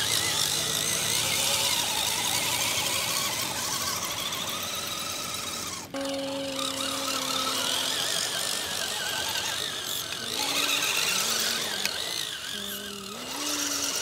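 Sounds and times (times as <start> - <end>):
rc truck motors whining: 0.0 - 14.0.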